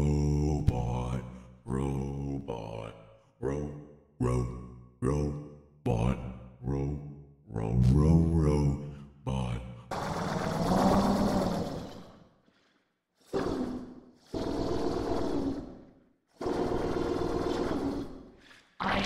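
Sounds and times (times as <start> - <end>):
person making drawn-out wordless sounds: 0.0 - 12.0, 13.2 - 15.8, 16.4 - 19.0.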